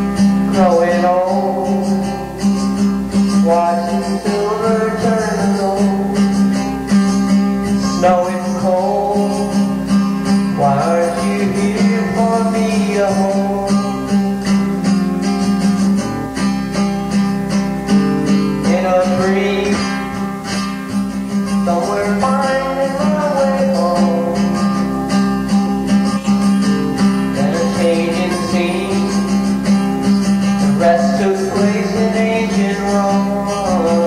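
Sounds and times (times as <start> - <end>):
acoustic guitar strumming: 0.0 - 34.0
sliding high guitar notes: 0.0 - 34.0.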